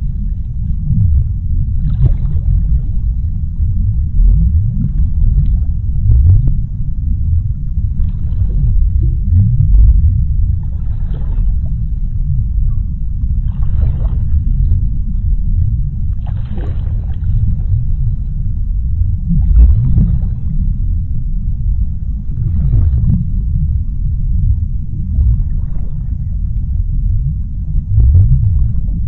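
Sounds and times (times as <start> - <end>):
deep underwater rumble: 0.0 - 29.0.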